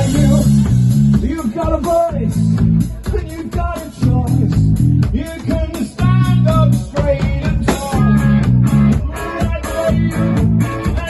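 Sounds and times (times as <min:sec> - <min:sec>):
bass guitar: 0:00.0 - 0:11.0
drum beat: 0:00.0 - 0:11.0
electric guitar: 0:00.0 - 0:11.0
person singing: 0:00.0 - 0:11.0.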